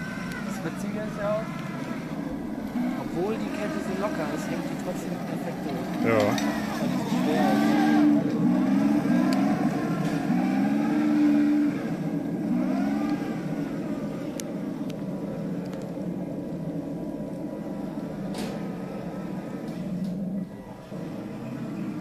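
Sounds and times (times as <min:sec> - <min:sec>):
model tank motor running: 0:00.0 - 0:22.0.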